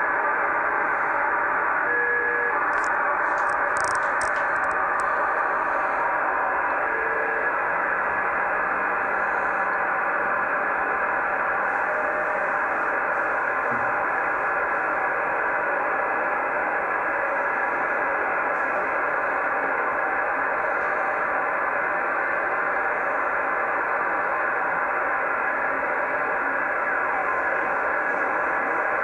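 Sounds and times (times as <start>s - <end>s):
radio receiver hiss: 2.5s - 29.0s.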